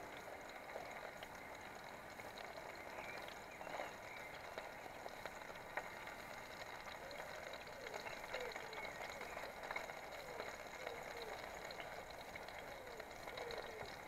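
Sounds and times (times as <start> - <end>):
burgers sizzling in a tin: 0.0 - 14.0.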